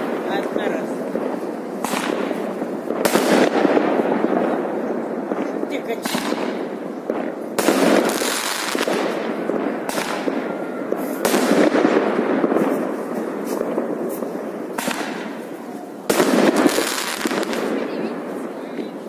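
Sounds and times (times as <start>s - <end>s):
fireworks bangs and crackling: 0.0s - 19.0s
sharp loud firework bangs: 0.0s - 19.0s.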